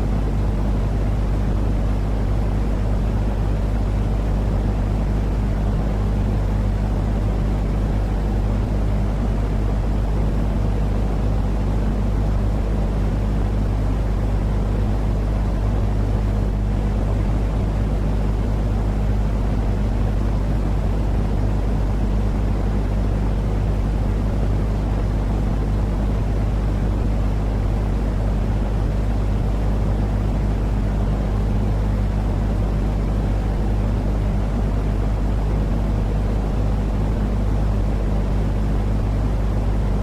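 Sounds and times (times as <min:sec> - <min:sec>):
constant low hum: 0:00.0 - 0:40.0.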